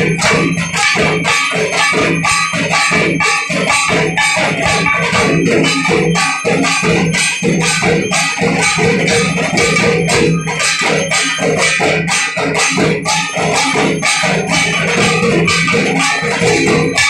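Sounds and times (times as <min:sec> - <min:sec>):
drums beating: 0:00.0 - 0:17.0
metal bells and cymbals ringing: 0:00.0 - 0:17.0.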